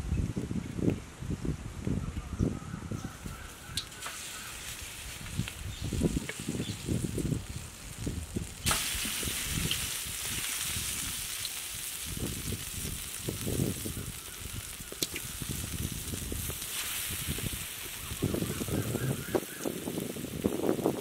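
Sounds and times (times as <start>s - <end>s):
oil sizzling: 3.2s - 21.0s.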